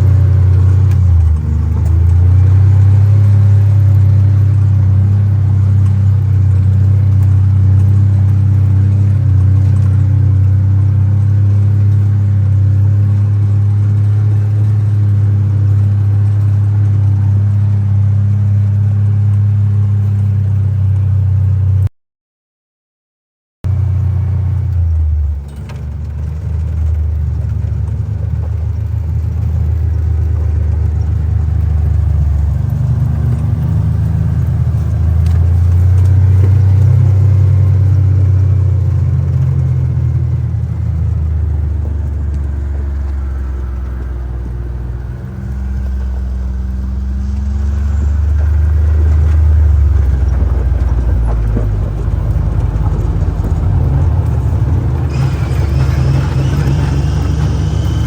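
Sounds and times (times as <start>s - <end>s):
utility vehicle engine running: 0.0s - 21.9s, 23.7s - 58.0s.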